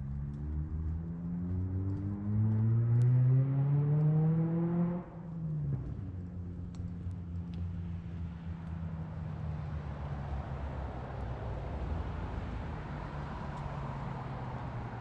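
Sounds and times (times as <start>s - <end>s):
low engine hum with road noise: 0.0s - 15.0s
vehicle engine accelerating: 0.0s - 15.0s.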